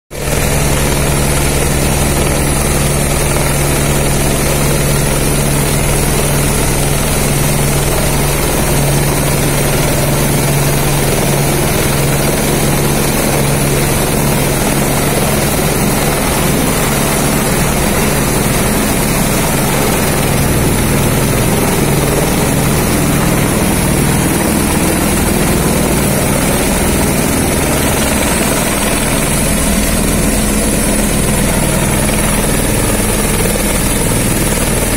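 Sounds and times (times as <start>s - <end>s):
helicopter rotor beat: 0.1s - 34.9s
turbine engine whine: 0.2s - 34.9s.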